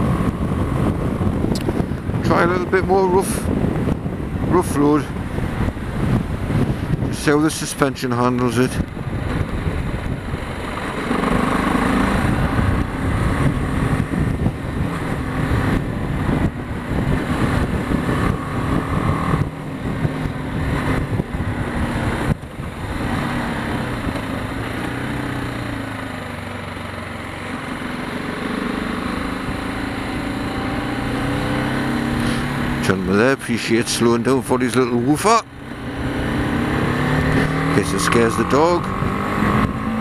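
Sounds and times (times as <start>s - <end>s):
motorcycle engine running: 0.0s - 4.6s, 8.7s - 33.3s, 35.0s - 40.0s
wind and road noise: 0.0s - 40.0s.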